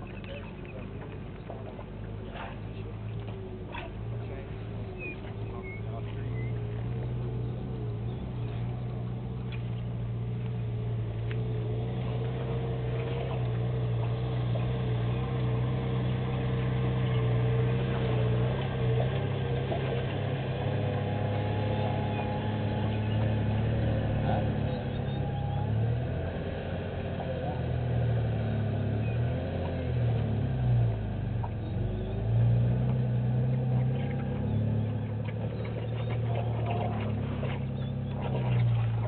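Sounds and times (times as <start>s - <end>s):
engine droning: 0.0s - 39.0s.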